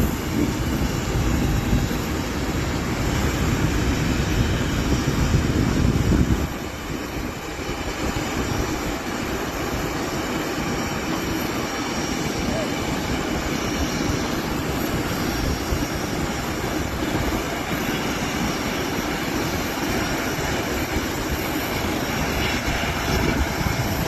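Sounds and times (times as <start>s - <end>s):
jet landing rushing noise: 0.0s - 24.0s.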